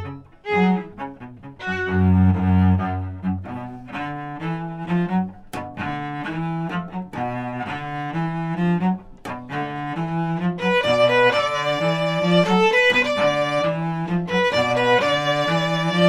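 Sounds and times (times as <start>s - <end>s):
cello bowing low notes: 0.0s - 16.0s
violin playing: 0.0s - 16.0s.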